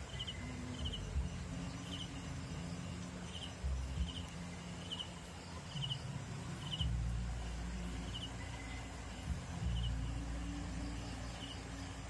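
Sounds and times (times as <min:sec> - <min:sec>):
cricket chirping: 0:00.0 - 0:12.0
low hum and rumble: 0:00.0 - 0:12.0.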